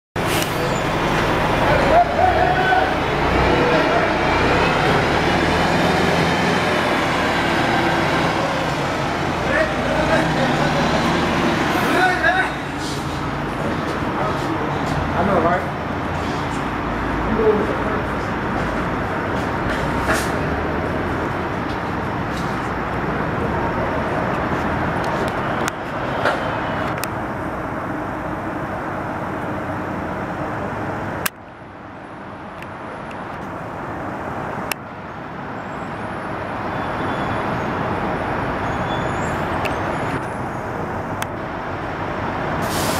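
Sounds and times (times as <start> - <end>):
bus engine drone: 0.2 - 42.9.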